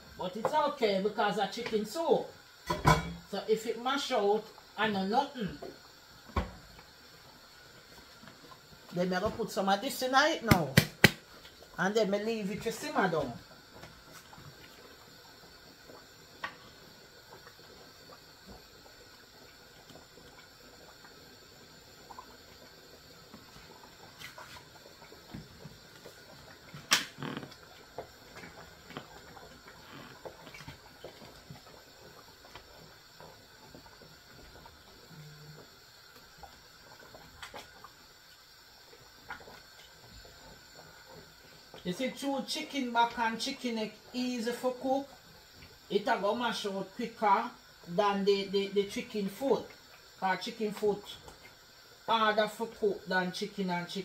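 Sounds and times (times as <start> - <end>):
soup simmering on stove: 0.0 - 54.0.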